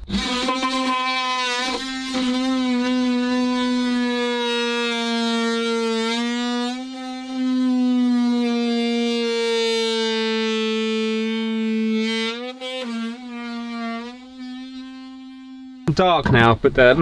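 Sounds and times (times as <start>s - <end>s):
oscillating tool cutting fibreglass: 0.0s - 16.0s.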